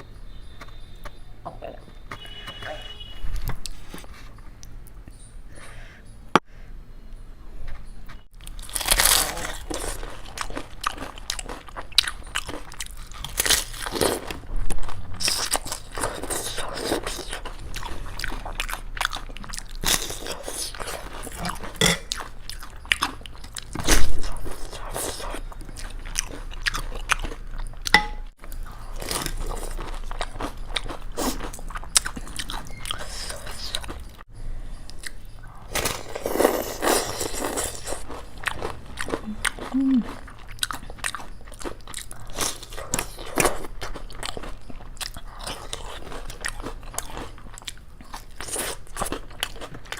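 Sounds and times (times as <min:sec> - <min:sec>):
crunchy bites and chewing: 0:08.4 - 0:34.2, 0:34.9 - 0:49.9.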